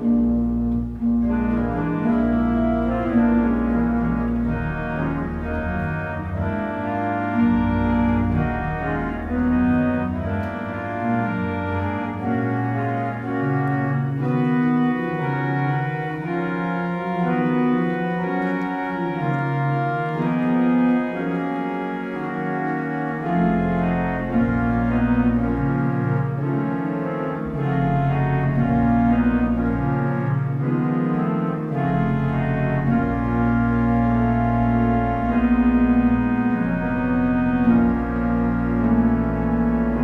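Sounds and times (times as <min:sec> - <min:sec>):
church organ playing chords: 0:00.0 - 0:40.0.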